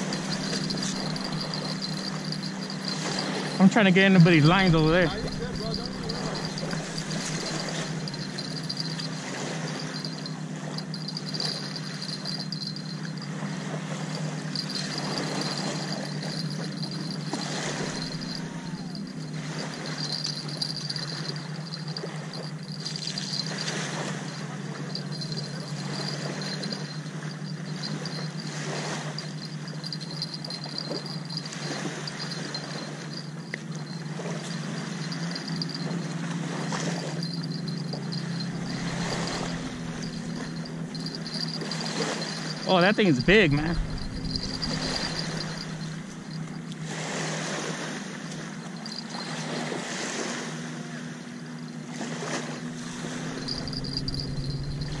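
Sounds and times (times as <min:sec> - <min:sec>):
distant boat engine hum: 0:00.0 - 0:55.0
wind or water noise: 0:00.0 - 0:55.0.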